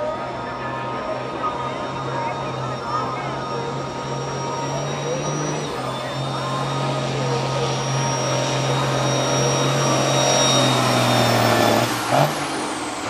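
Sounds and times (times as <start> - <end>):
high whine: 0.0 - 13.0
truck engine at full throttle: 0.0 - 13.0.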